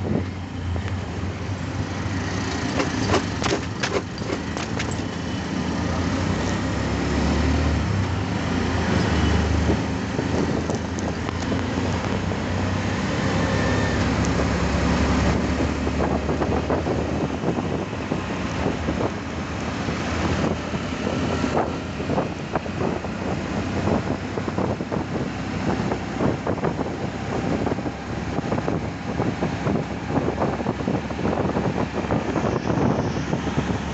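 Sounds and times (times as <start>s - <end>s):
bus driving alongside: 0.0s - 33.9s
vehicle engine and tyre drone: 0.0s - 33.9s.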